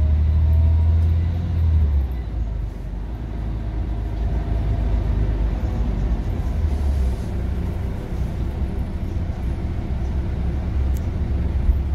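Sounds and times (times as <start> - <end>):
bus drivetrain rumble: 0.0 - 11.9.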